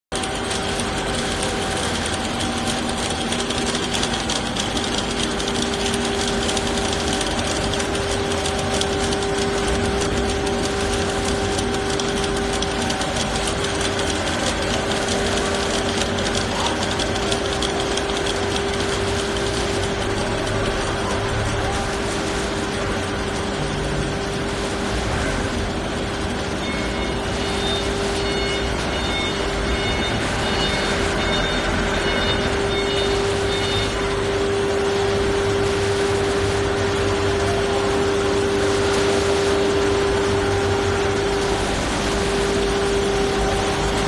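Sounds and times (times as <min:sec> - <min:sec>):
paper slitting machine whirring: 0:00.1 - 0:44.0.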